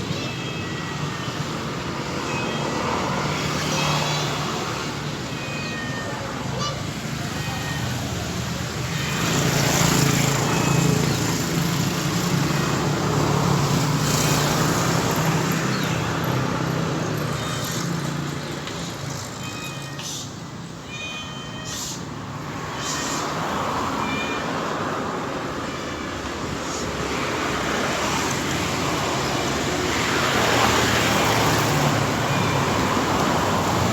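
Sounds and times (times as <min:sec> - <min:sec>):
steady road noise: 0:00.0 - 0:33.9.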